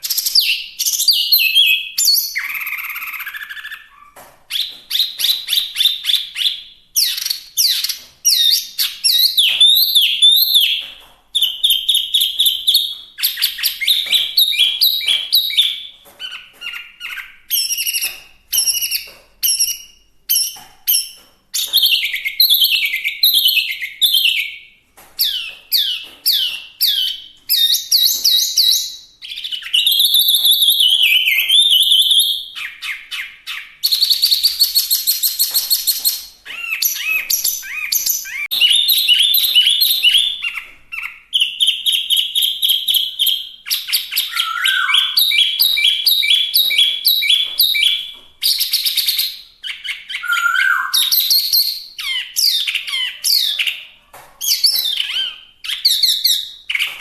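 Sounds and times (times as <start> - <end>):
bird singing trills and whistles: 0.0 - 57.0.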